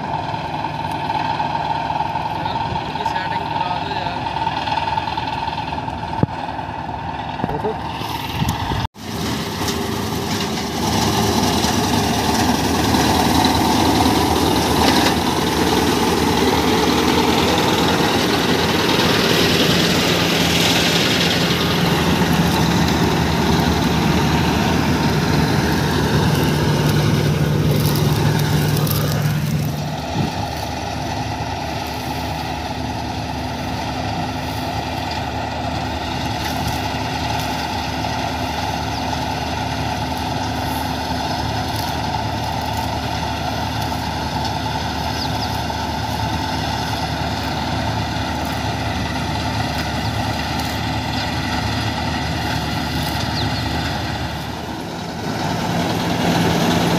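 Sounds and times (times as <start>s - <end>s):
combine harvester running: 0.0s - 56.9s.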